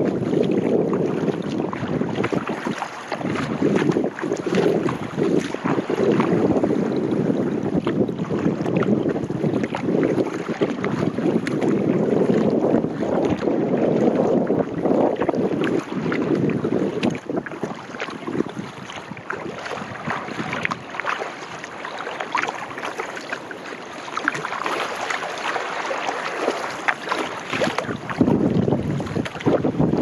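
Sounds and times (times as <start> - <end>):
paddle splashing water: 0.0 - 30.0
wind buffeting microphone: 0.0 - 30.0.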